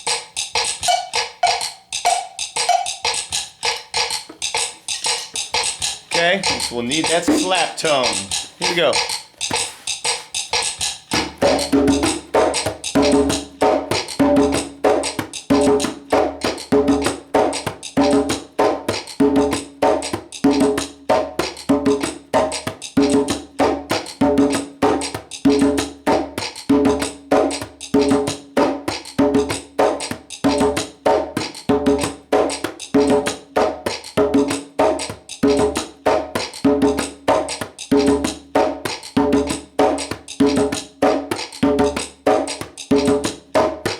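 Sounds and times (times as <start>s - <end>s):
djembe drum pattern: 0.0s - 43.9s.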